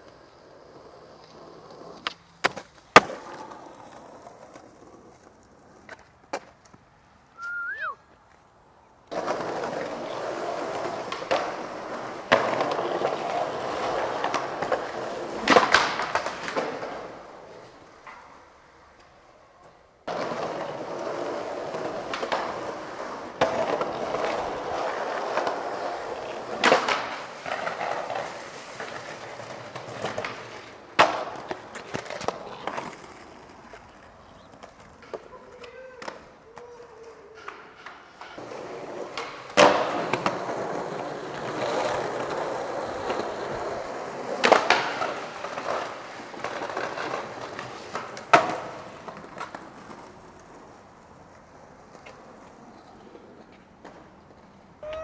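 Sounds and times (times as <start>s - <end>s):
skateboard clacking on ground: 0.0s - 7.5s, 9.1s - 55.0s
skateboard wheels rolling on concrete: 0.0s - 55.0s.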